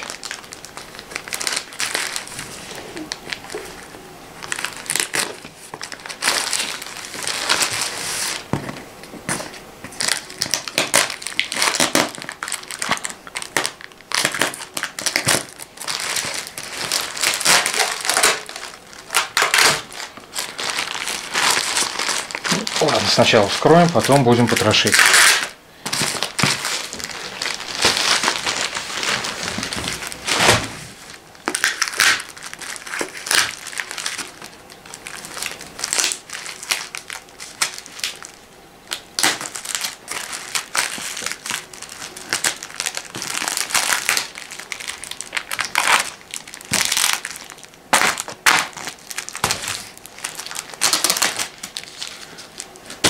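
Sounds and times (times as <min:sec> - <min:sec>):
tape ripping off parcel: 0:00.0 - 0:03.6, 0:04.4 - 0:08.6, 0:09.3 - 0:53.0
plastic packaging crinkling: 0:00.0 - 0:08.6, 0:09.2 - 0:53.0.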